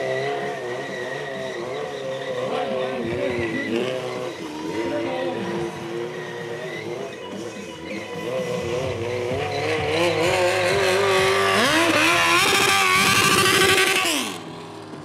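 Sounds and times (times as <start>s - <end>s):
motorcycle engine revving hard: 0.0s - 15.0s.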